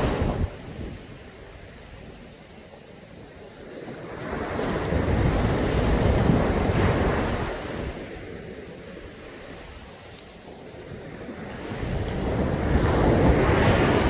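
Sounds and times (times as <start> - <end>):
wave breaking on beach: 0.0 - 2.2, 3.4 - 14.0.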